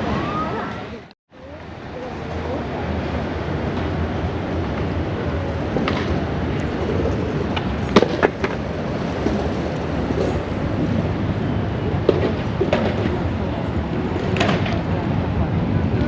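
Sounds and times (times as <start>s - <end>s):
noisy background din: 0.0s - 16.0s.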